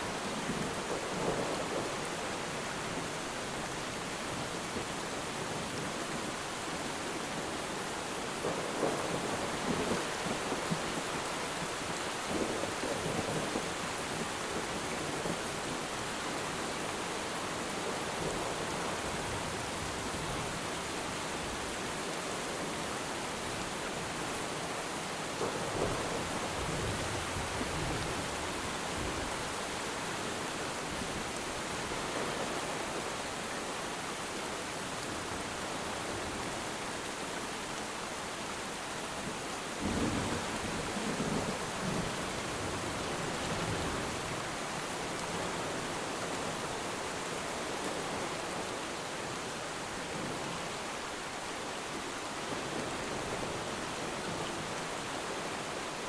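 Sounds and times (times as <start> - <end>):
rain falling on water: 0.0 - 56.0.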